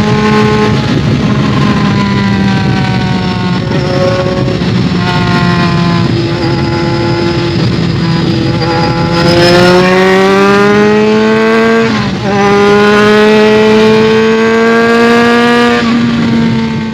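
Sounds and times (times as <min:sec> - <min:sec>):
muffled motorcycle engine accelerating: 0:00.0 - 0:16.9.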